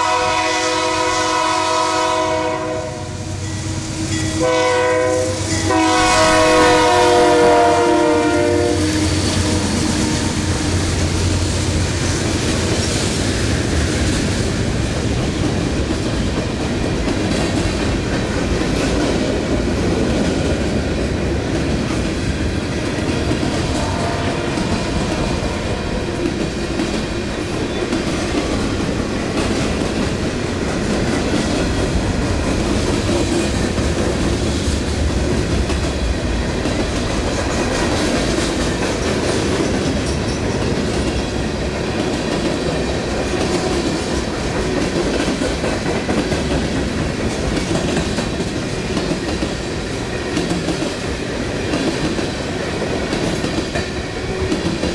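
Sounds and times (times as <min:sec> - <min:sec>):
train wheels clacking on rails: 0:00.0 - 0:54.9.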